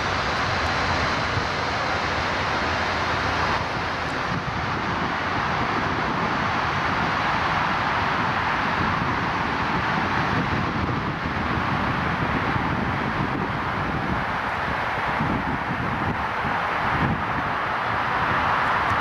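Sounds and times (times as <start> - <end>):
jet engines at taxi power: 0.0 - 19.0.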